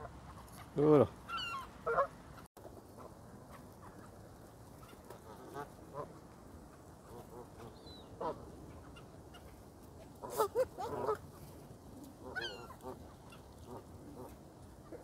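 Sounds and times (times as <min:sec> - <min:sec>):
geese honking: 0:00.0 - 0:04.1, 0:04.8 - 0:06.2, 0:07.0 - 0:09.6, 0:10.2 - 0:11.3, 0:12.2 - 0:15.0.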